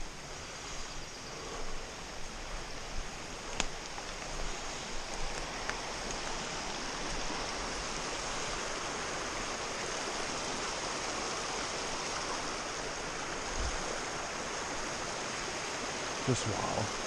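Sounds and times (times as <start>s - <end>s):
brook running over rocks: 0.0s - 17.0s.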